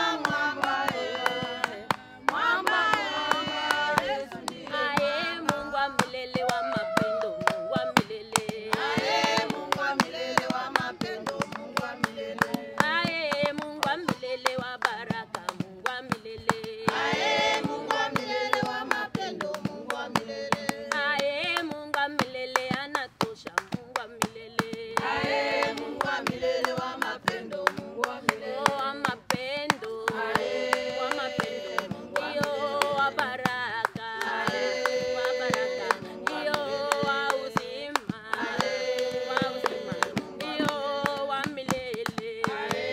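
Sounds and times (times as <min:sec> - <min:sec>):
congregation singing a hymn: 0:00.0 - 0:06.6, 0:07.4 - 0:13.2, 0:16.6 - 0:21.4, 0:24.8 - 0:42.9
rhythmic hand-clapping: 0:00.0 - 0:42.9.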